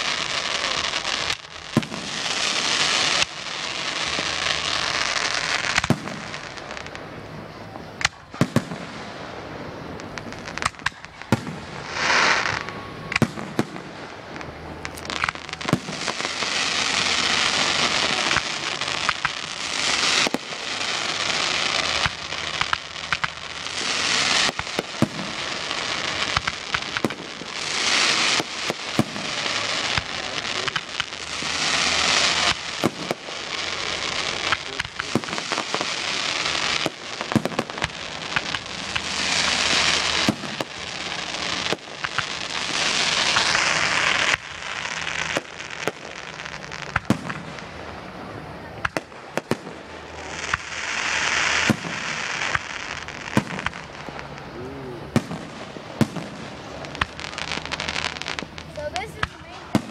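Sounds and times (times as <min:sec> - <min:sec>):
fireworks bangs: 0:00.0 - 0:59.9
fireworks hissing: 0:00.0 - 0:59.9.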